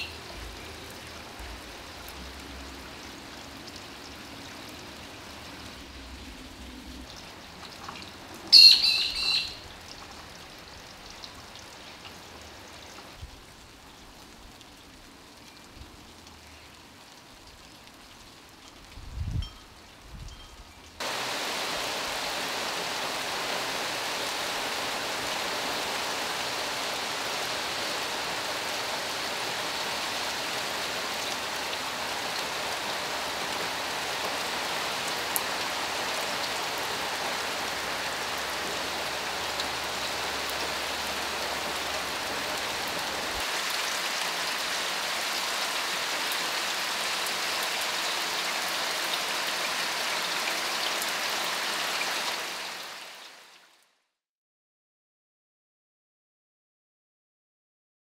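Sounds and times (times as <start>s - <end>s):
rain pattering on wet road: 0.0s - 19.1s, 22.4s - 53.8s.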